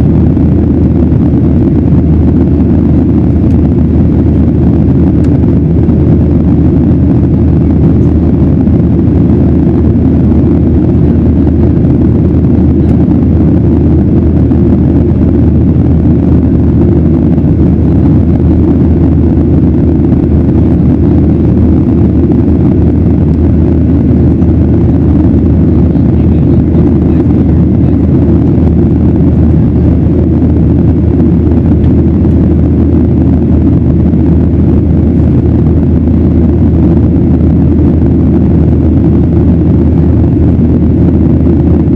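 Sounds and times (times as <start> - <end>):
jet engines rumbling in cabin: 0.0 - 41.9.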